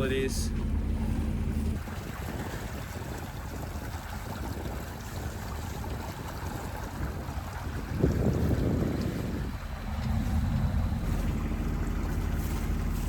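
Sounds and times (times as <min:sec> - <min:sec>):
water rushing along boat hull: 0:00.0 - 0:13.0
wind noise on microphone: 0:00.0 - 0:13.0.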